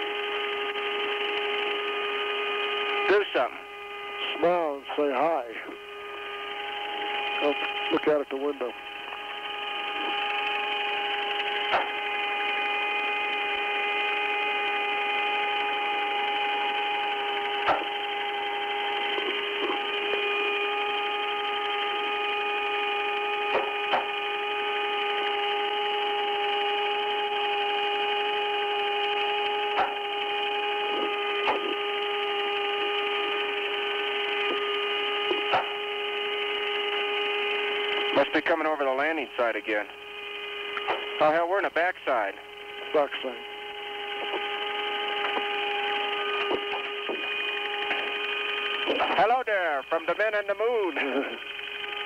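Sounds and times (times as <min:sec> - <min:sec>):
electrical hum and hiss: 0:00.0 - 0:52.0.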